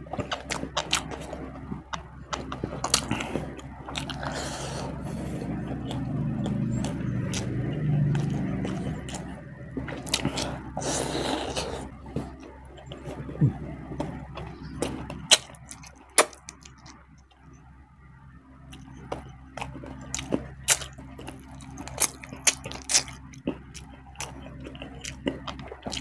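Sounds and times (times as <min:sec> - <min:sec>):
person chewing: 0:00.0 - 0:17.3, 0:18.7 - 0:26.0.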